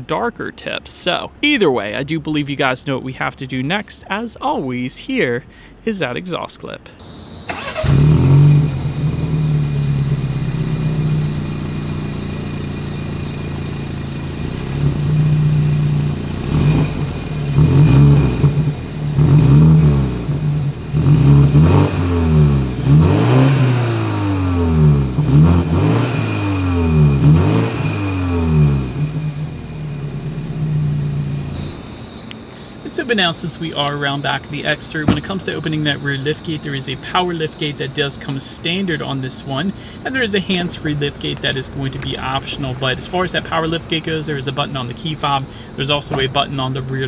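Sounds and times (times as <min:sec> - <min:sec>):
car engine idling and revving: 0:07.0 - 0:32.9, 0:33.6 - 0:47.0.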